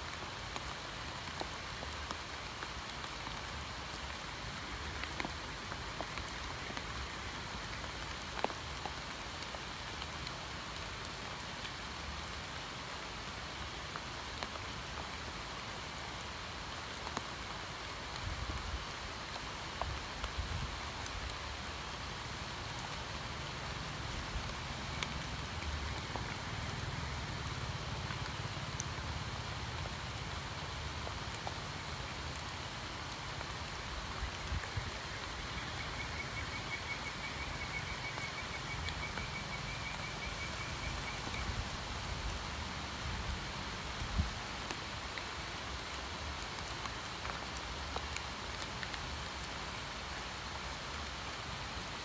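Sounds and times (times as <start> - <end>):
rain falling on pond: 0.0 - 52.0.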